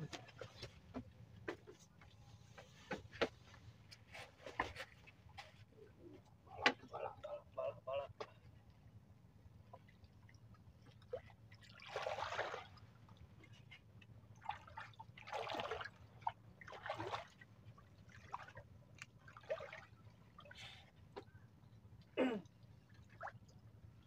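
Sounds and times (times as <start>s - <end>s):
water splashing and sloshing: 0.0s - 7.3s, 8.2s - 24.0s.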